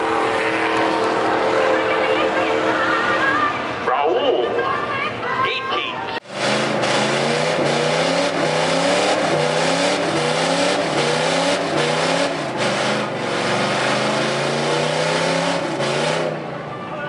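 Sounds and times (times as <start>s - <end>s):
truck engine revving hard: 0.0s - 3.9s, 6.2s - 16.7s.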